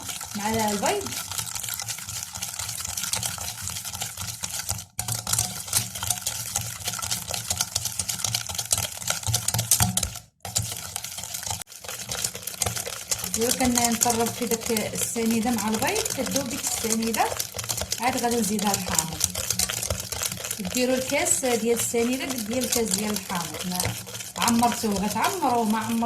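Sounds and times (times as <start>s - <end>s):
whisk clicking and scraping a bowl: 0.0s - 26.0s.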